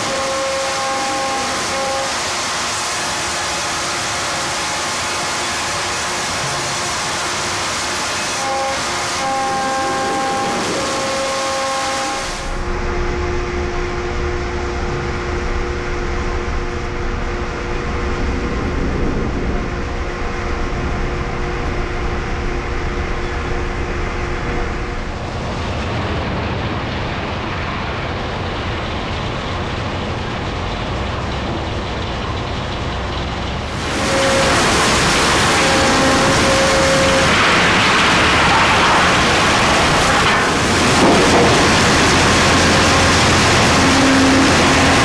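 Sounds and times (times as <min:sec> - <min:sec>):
sawmill machinery rumbling: 0:00.0 - 0:45.0
steady machine hums: 0:00.0 - 0:45.0.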